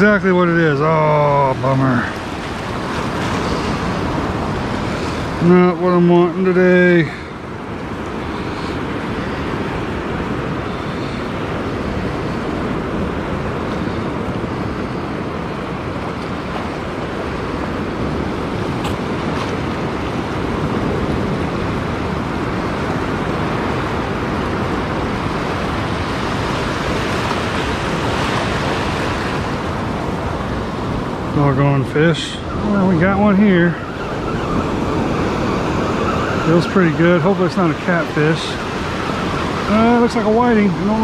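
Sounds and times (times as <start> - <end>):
waves breaking and foaming: 0.0 - 41.0.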